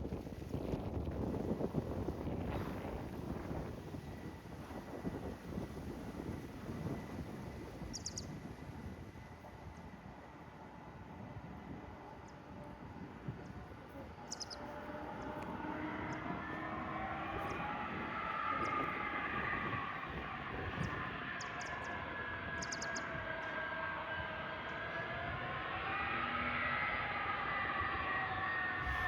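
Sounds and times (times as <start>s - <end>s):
jet airliner engines roaring: 0.0s - 29.0s.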